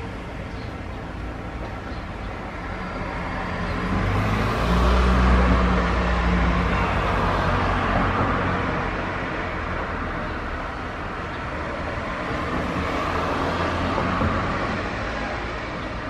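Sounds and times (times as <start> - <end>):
distant traffic rush: 0.0 - 16.0
passing vehicle engine hum: 0.0 - 16.0.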